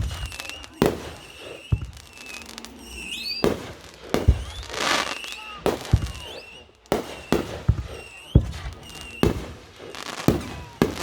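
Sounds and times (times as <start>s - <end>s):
fireworks banging: 0.0s - 11.0s
fireworks whistling: 0.0s - 11.0s.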